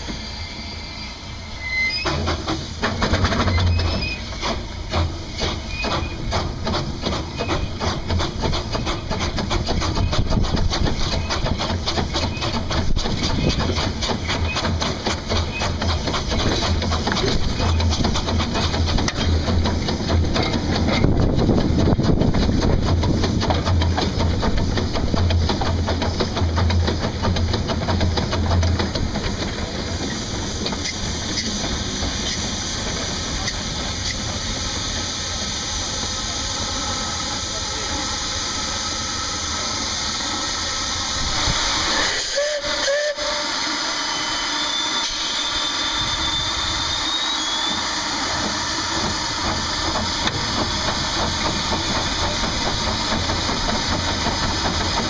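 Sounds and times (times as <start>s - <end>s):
steam hissing: 0.0s - 55.0s
steam engine beat: 2.1s - 55.0s.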